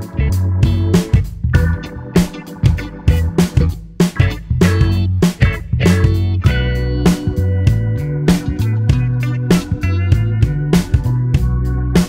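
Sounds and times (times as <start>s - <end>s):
guitar and bass music: 0.0s - 12.0s.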